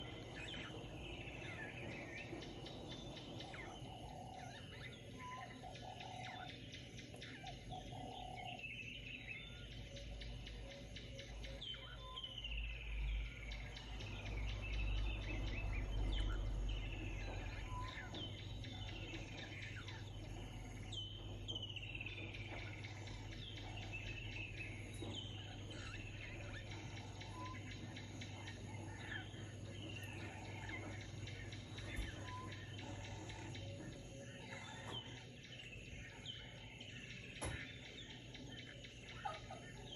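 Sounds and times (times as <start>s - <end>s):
birds whistling calls: 0.0s - 39.9s
steady background noise: 0.0s - 39.9s.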